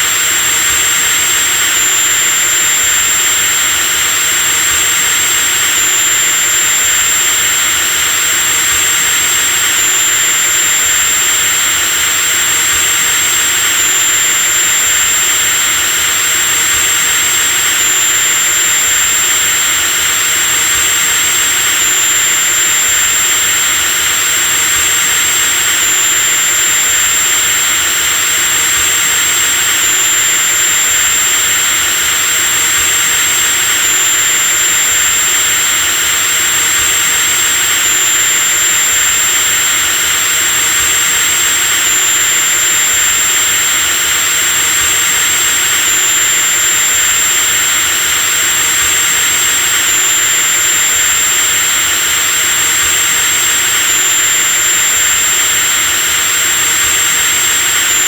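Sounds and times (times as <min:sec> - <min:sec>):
electric drill motor whining: 0:00.0 - 0:58.0.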